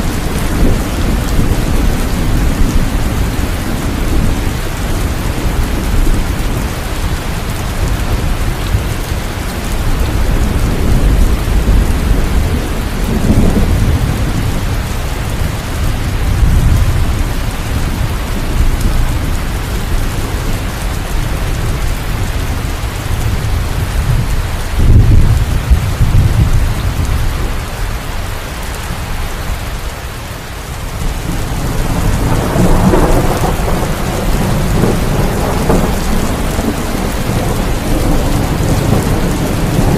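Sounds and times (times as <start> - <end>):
rolling thunder: 0.0 - 27.7, 30.9 - 39.9
heavy rain: 0.0 - 39.9.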